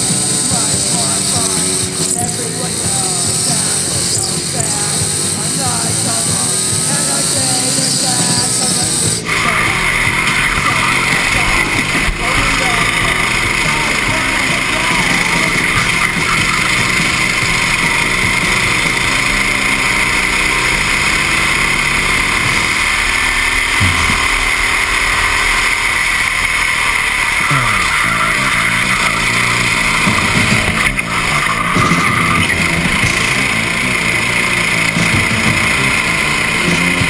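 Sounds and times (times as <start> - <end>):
kart engine running hard: 0.0 - 37.0
steady hiss: 0.0 - 37.0.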